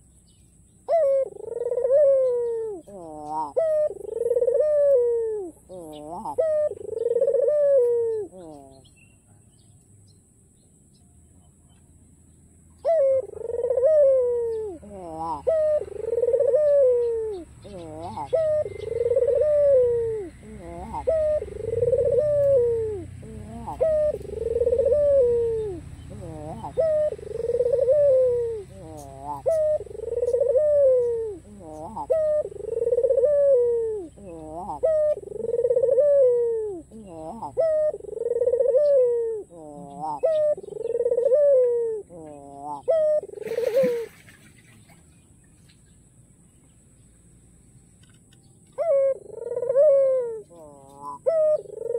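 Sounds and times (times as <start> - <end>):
dove cooing: 0.8 - 8.9, 12.8 - 44.5, 48.7 - 51.9.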